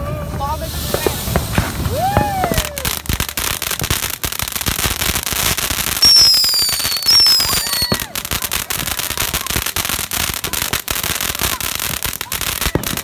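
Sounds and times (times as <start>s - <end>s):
fireworks crackling: 0.0s - 13.0s
whistling fireworks: 0.0s - 13.0s.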